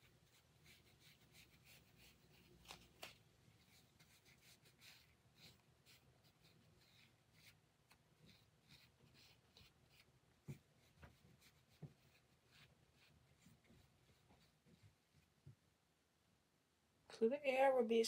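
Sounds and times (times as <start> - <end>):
wipe rubbing against skin: 0.0 - 15.3.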